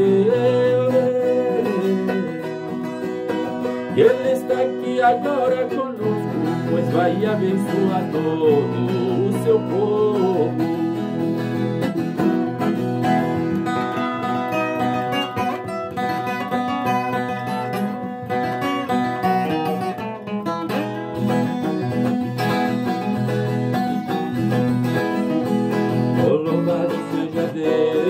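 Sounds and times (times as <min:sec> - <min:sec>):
plucked folk guitar: 0:00.0 - 0:28.0.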